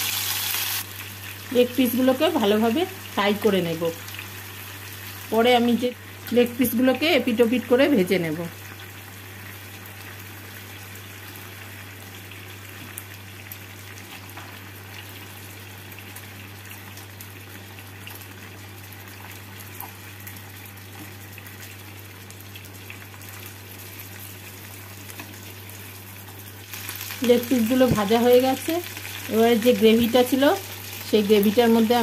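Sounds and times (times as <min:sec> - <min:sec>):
chicken sizzling in oil: 0:00.0 - 0:32.0.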